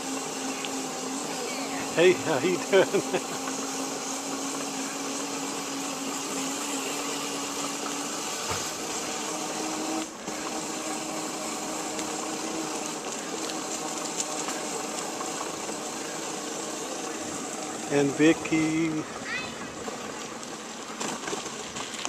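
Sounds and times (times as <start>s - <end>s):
small motor humming: 0.0s - 22.0s.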